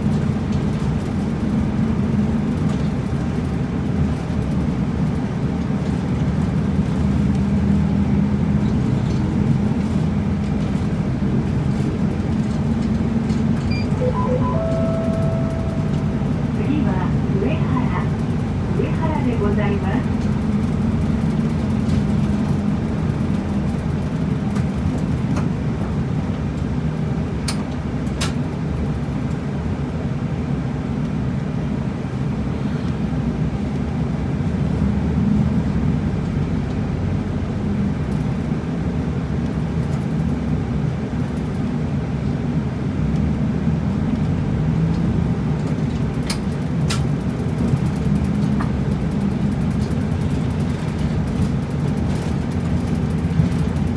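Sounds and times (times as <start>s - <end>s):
bus engine and road rumble: 0.0s - 53.9s.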